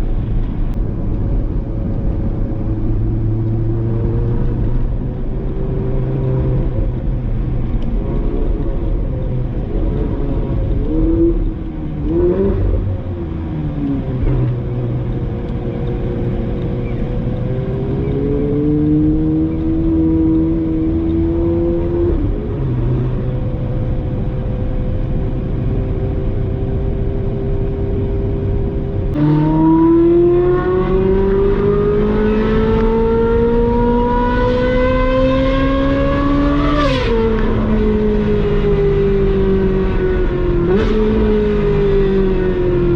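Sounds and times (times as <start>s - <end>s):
sports car engine revving: 2.4s - 42.9s.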